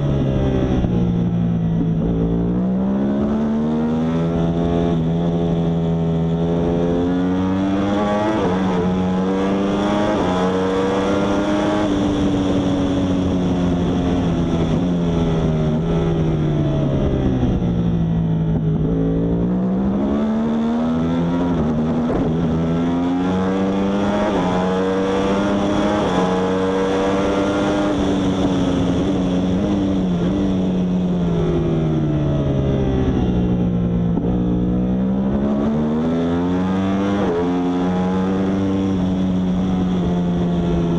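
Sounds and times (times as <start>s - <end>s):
motorcycle engine revving high: 0.0s - 40.9s.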